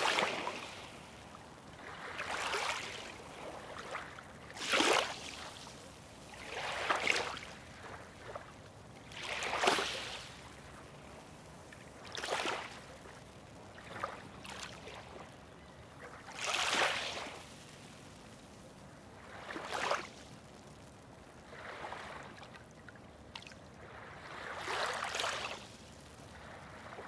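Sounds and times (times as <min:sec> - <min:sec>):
small waves lapping: 0:00.0 - 0:27.0.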